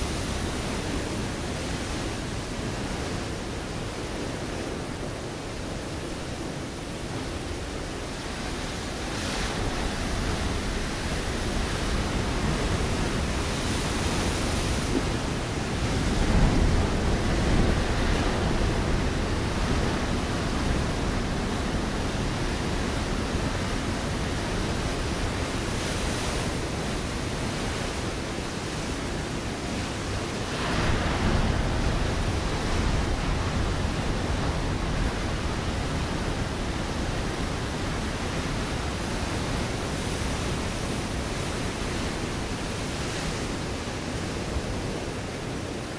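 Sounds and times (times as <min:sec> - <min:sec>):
ocean waves breaking on rocks: 0:00.0 - 0:45.9
wind on microphone: 0:00.0 - 0:45.9.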